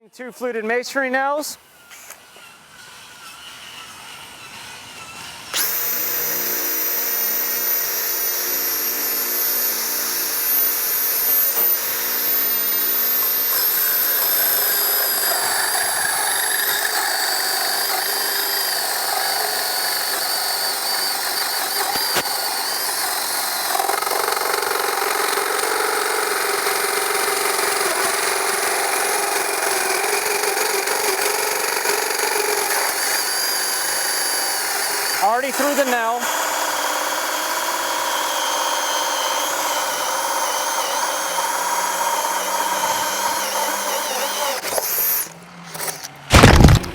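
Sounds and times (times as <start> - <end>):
power drill hole saw cutting wood: 1.6 - 46.9.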